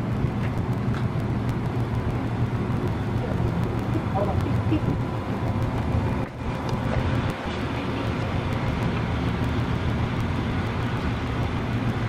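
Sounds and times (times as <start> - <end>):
low rumble of city traffic: 0.0 - 12.0.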